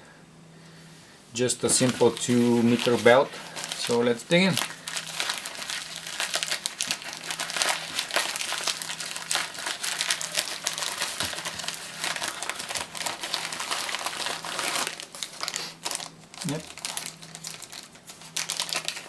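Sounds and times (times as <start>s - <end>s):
faint steady hum: 0.0s - 19.0s
packaging crinkling: 1.6s - 19.0s.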